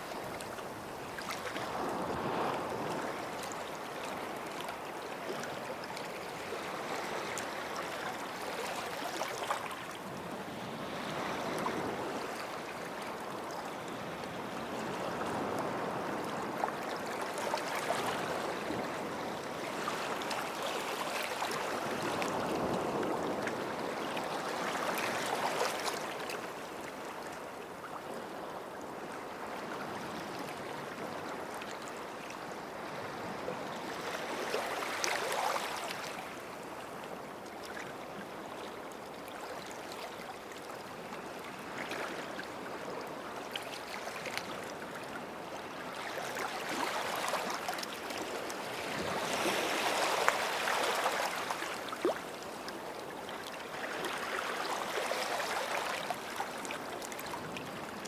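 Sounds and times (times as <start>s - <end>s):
small waves washing onto beach: 0.0s - 58.0s.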